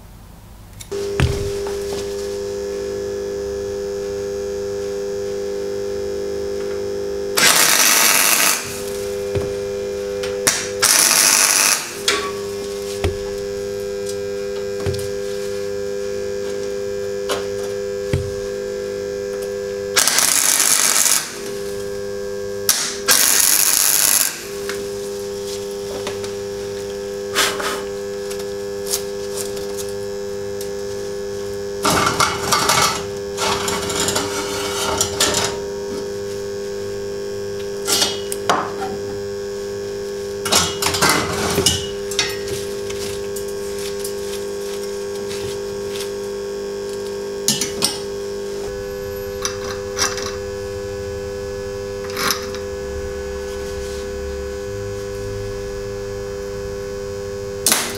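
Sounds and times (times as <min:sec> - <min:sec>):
steady electrical hum: 0:00.0 - 0:57.9
welding arc crackling: 0:00.8 - 0:57.9.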